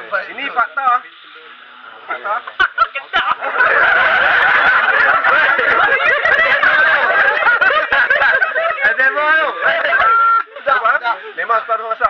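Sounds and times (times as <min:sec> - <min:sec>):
group of people laughing: 0:02.1 - 0:12.0.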